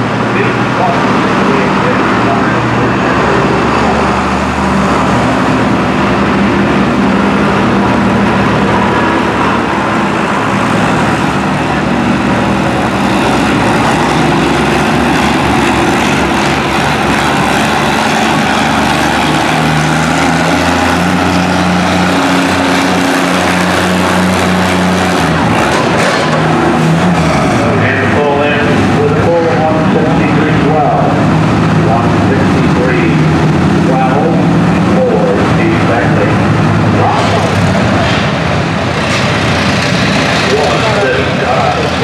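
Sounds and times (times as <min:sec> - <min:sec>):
tractor engine running under load: 0:00.0 - 0:42.0.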